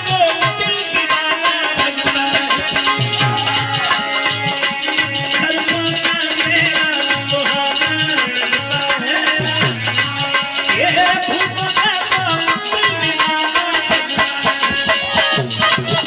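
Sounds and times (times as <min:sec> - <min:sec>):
hand drum beat: 0:00.0 - 0:16.0
harmonium melody: 0:00.0 - 0:16.0
rattling percussion: 0:00.0 - 0:16.0.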